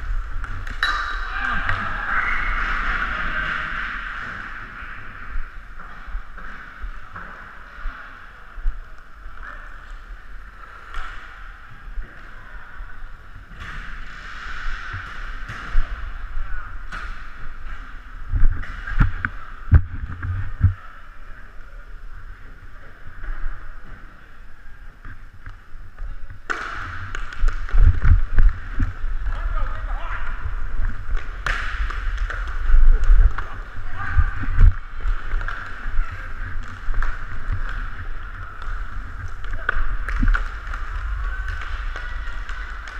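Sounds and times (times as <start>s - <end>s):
skate wheels rolling: 0.0s - 42.9s.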